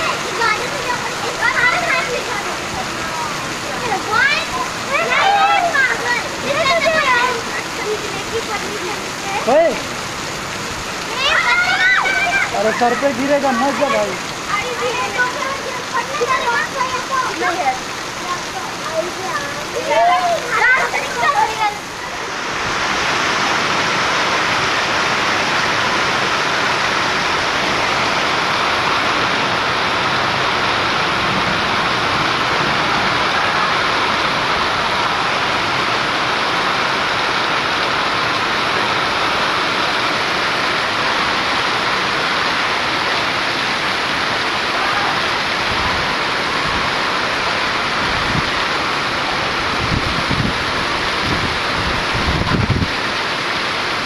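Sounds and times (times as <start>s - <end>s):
heavy rain and hail: 0.0s - 54.0s.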